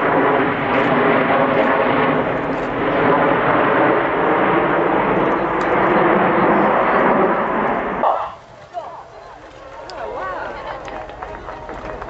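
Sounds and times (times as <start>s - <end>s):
jet planes flying past: 0.0s - 12.0s.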